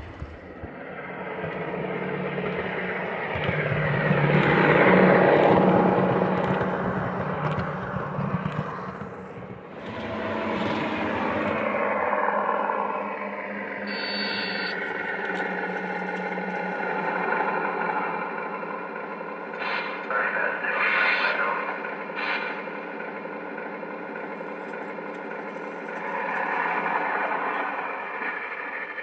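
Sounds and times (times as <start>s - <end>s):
model train rolling whir: 0.0s - 29.0s.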